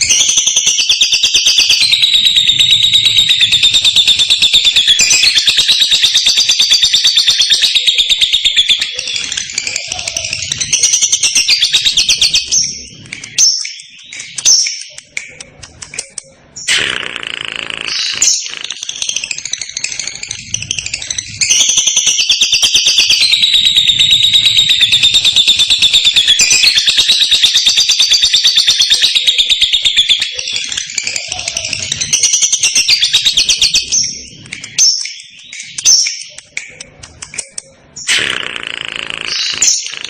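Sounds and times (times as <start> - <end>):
lovebird chirping and trilling: 0.0 - 40.0.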